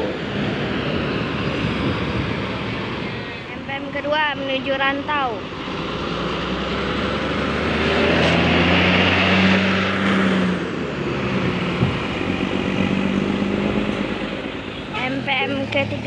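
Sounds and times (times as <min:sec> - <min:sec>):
bus driving past: 0:00.0 - 0:16.0.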